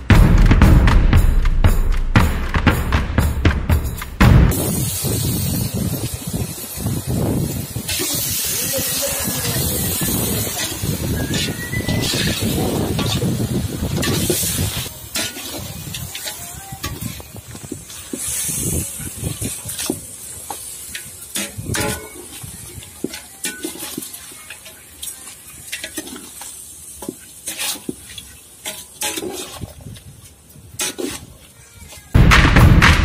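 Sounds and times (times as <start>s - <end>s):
chicken sizzling in a metal pot: 4.5s - 32.1s.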